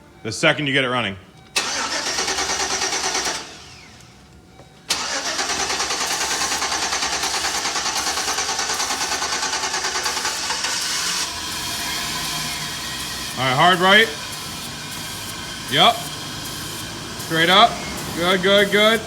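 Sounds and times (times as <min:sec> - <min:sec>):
van engine running: 0:01.5 - 0:19.0.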